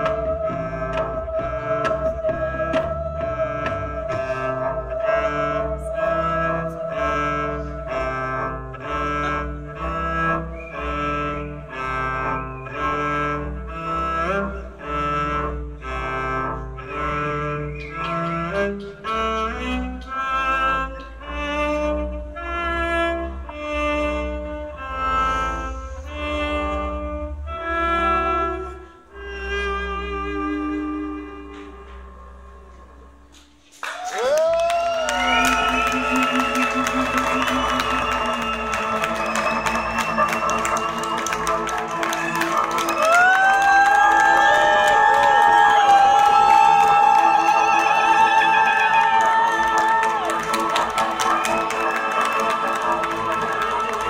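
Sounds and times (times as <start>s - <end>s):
double basses playing: 0.0s - 33.7s, 35.1s - 48.0s.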